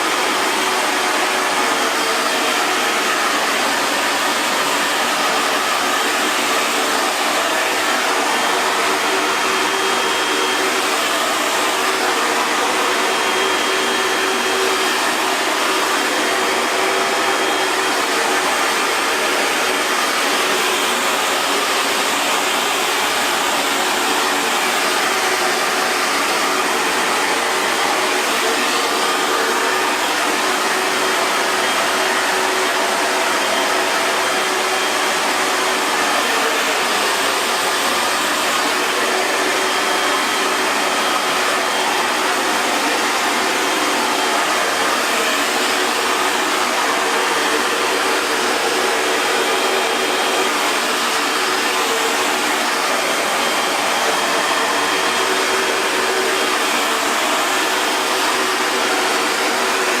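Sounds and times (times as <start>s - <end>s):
hair dryer blowing air: 0.0s - 60.0s.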